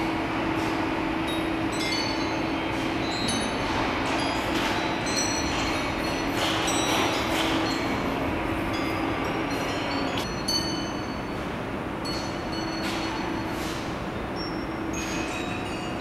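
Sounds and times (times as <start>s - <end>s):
glass rods ringing chime-like: 1.3s - 13.5s, 14.4s - 16.0s.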